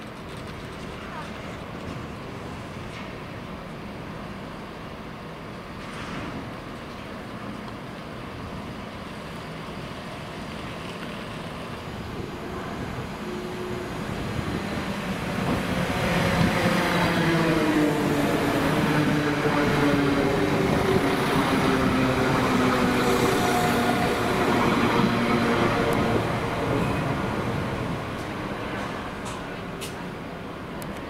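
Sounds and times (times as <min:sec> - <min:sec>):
diesel train engine: 0:00.0 - 0:31.0.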